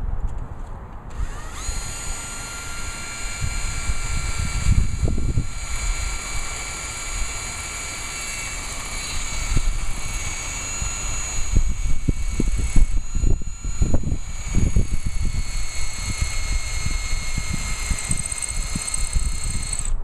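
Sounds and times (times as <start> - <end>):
wind buffeting microphone: 0.0 - 20.0
electric drill boring into concrete: 1.1 - 20.0.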